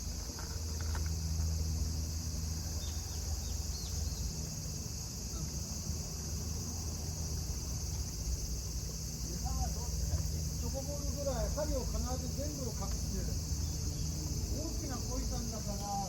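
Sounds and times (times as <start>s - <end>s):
high insect buzz: 0.0s - 16.0s.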